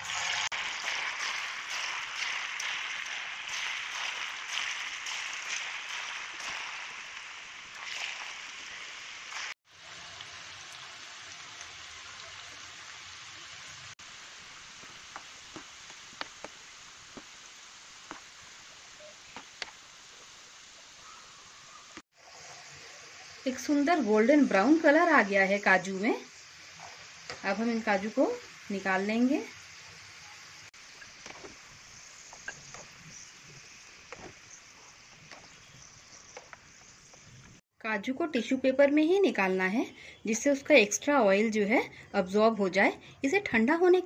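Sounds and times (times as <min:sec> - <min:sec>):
deep-frying sizzle with crackling: 0:00.0 - 0:44.0.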